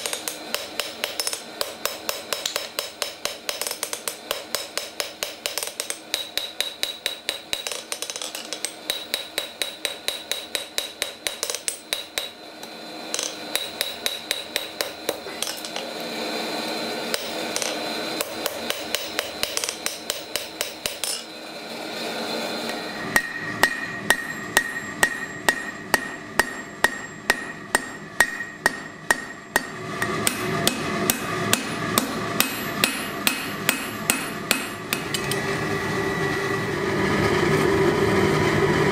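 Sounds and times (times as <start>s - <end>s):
hammer ringing on anvil: 0.0s - 12.4s, 13.1s - 15.8s, 17.1s - 21.3s, 22.7s - 35.4s.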